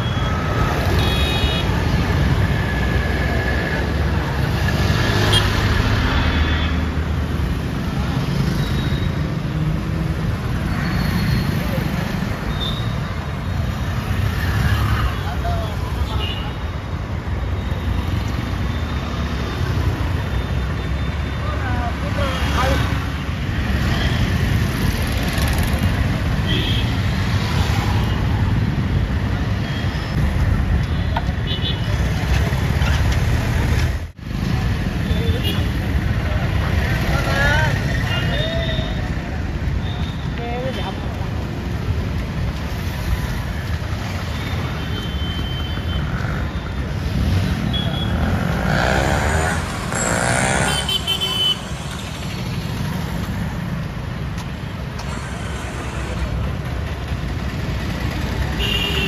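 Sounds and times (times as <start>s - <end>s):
busy street traffic rumble: 0.0s - 59.0s
motorbikes and cars passing: 0.0s - 59.0s.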